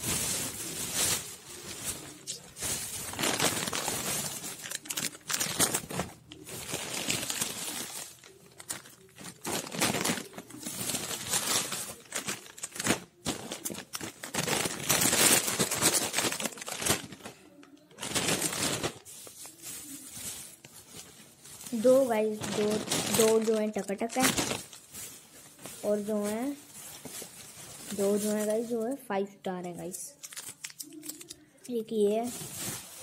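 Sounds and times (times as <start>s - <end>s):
plastic wrappers rustling: 0.0s - 29.1s, 29.8s - 33.0s.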